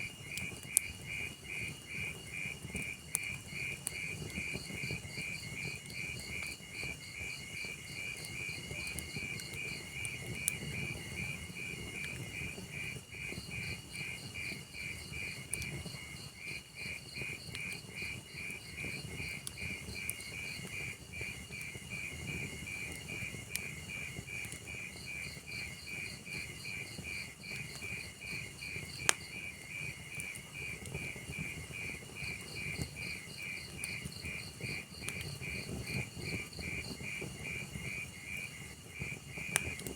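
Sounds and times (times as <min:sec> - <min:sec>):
fire crackles and pop: 0:00.0 - 0:39.9
crickets chirping: 0:00.1 - 0:39.9.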